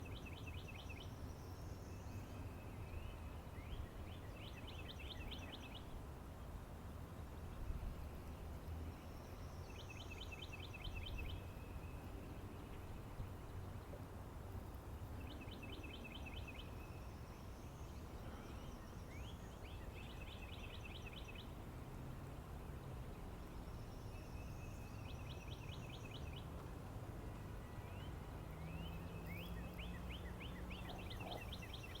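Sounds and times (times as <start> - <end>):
songbird singing: 0.0 - 6.6, 7.4 - 32.0.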